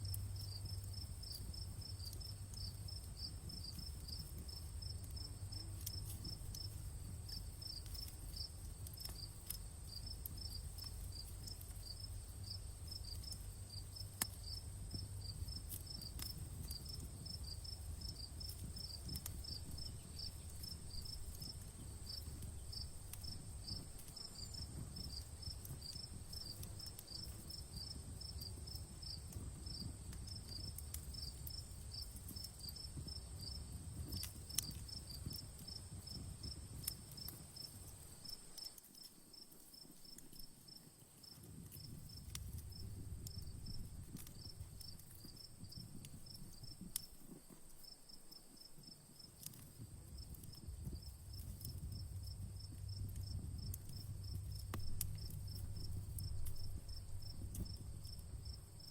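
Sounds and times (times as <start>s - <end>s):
campfire crackling: 0.0s - 58.9s
crickets chirping: 0.0s - 58.9s.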